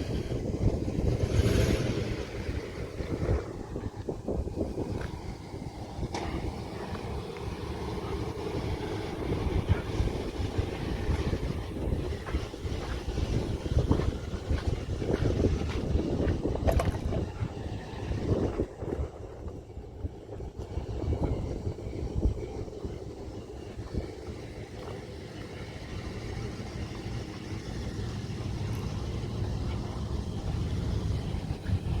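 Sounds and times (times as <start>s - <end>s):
truck engine rumbling: 0.0s - 32.0s
wind buffeting microphone: 0.0s - 32.0s.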